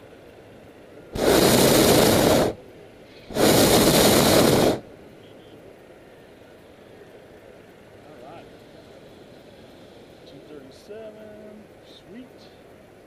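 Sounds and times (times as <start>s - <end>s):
propane burner blasts: 0.0s - 13.0s.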